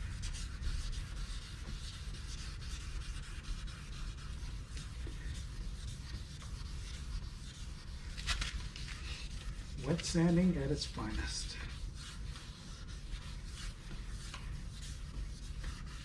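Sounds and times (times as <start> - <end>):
hand wet-sanding plastic: 0.0 - 16.0
steady low hum: 0.0 - 16.0.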